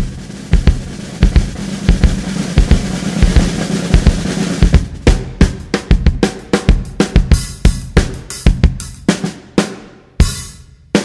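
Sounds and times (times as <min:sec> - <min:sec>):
drum kit playing: 0:00.0 - 0:11.0.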